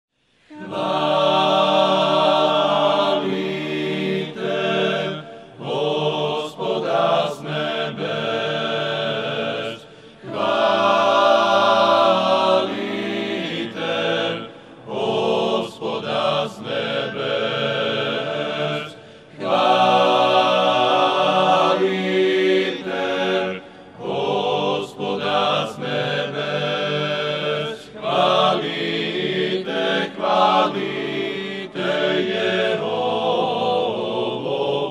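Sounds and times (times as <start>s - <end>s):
choir singing a chant: 0.4s - 34.9s.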